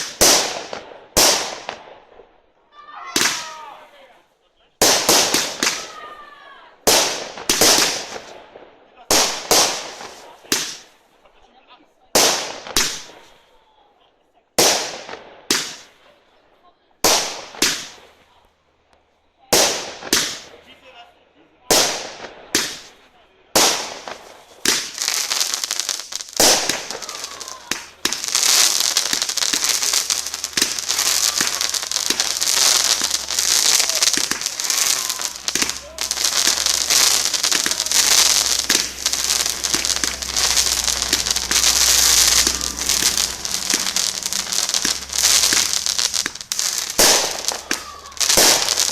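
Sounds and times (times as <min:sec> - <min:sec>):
fireworks bursting with echo: 0:00.0 - 0:02.3, 0:03.0 - 0:04.1, 0:04.8 - 0:11.3, 0:12.2 - 0:13.5, 0:14.6 - 0:16.4, 0:17.0 - 0:18.4, 0:19.5 - 0:20.8, 0:21.7 - 0:48.9.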